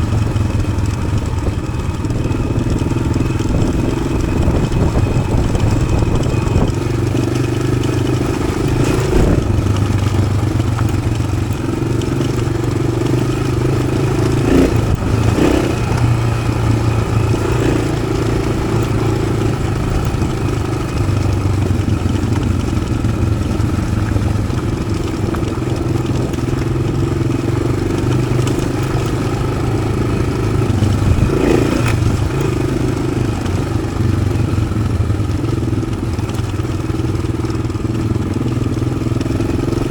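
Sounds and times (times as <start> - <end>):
motorcycle engine revving: 0.0 - 39.9
motorcycle knocks and clatters: 0.0 - 39.9.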